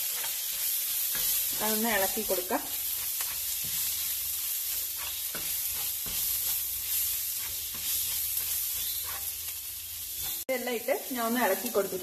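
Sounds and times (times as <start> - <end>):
spatula scraping a wok: 0.0 - 10.5
food sizzling in a wok: 0.0 - 12.0.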